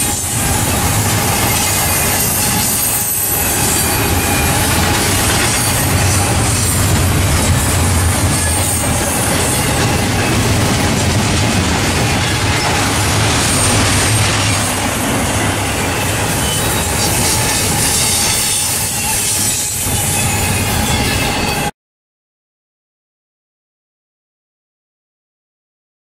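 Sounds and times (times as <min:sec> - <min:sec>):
train wheels on rails: 0:00.0 - 0:21.7.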